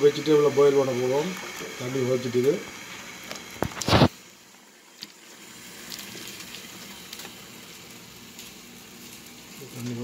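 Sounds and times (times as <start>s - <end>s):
water boiling in a pot: 0.0s - 10.0s.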